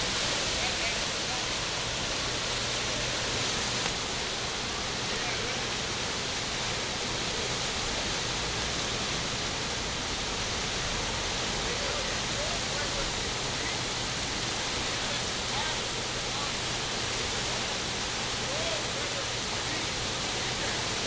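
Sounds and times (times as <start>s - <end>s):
whitewater rapids rushing: 0.0s - 21.0s.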